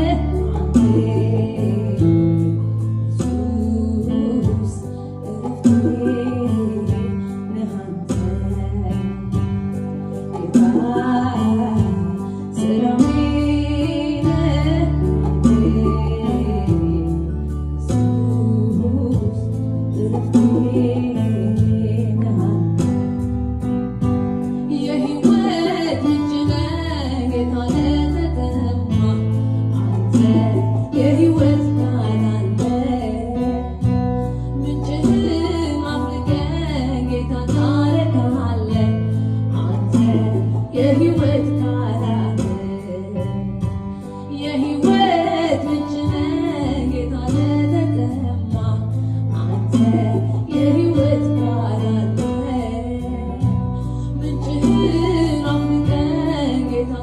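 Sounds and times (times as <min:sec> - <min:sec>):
woman singing gospel: 0:00.0 - 0:23.2, 0:24.6 - 0:57.0
electronic keyboard playing: 0:00.0 - 0:57.0.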